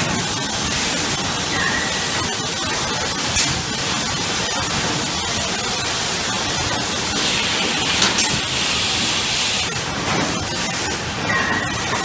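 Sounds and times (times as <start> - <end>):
machinery loud steady hiss: 0.0 - 11.2.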